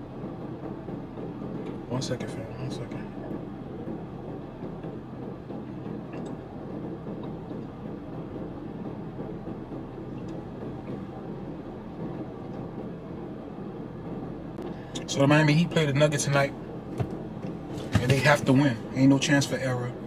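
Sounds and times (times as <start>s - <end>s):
car engine hum inside cabin: 0.0s - 20.0s.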